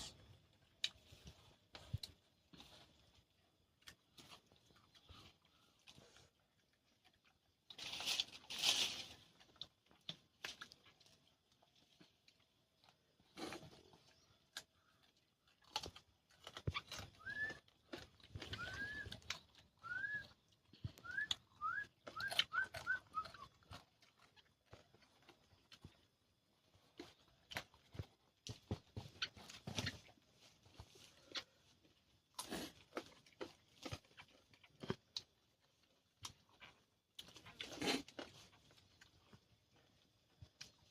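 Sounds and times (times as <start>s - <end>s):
chewing raw fruit: 0.0s - 40.9s.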